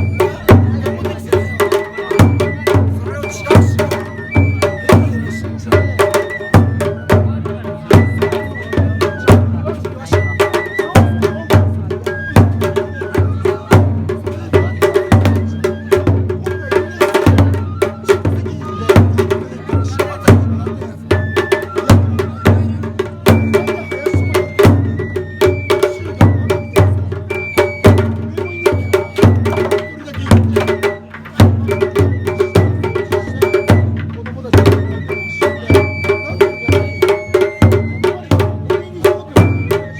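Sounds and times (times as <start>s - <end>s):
taiko drum beat: 0.0s - 39.9s.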